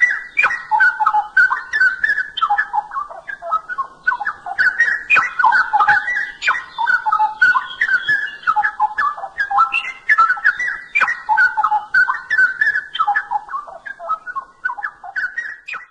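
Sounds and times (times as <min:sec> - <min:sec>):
bird singing whistled notes: 0:00.0 - 0:15.9.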